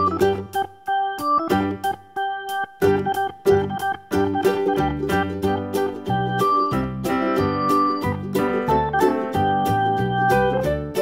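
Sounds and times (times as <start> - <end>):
upbeat children's tune: 0.0 - 11.0.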